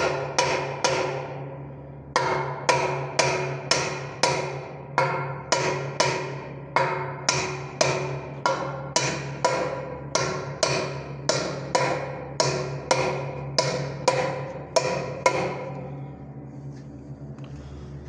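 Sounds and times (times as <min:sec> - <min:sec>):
hammer striking steel drift: 0:00.0 - 0:16.0.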